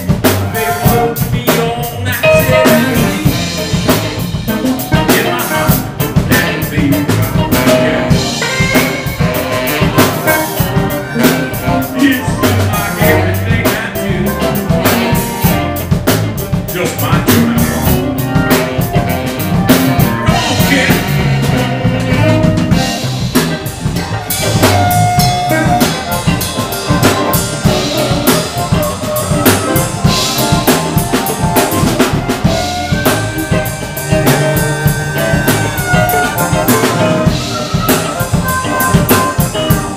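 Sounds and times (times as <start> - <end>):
bass guitar: 0.0 - 39.9
drum kit steady beat: 0.0 - 39.9
electric guitar: 0.0 - 39.9
saxophone: 0.0 - 39.9.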